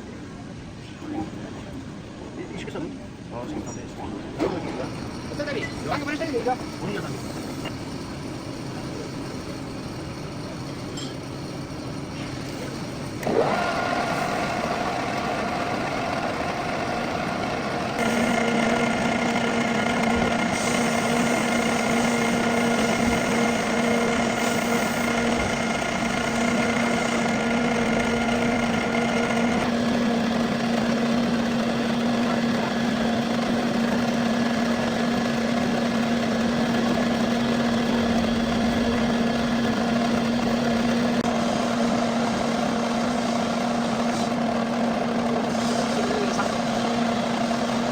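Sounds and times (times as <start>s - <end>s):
metal lathe whine: 4.5s - 47.9s.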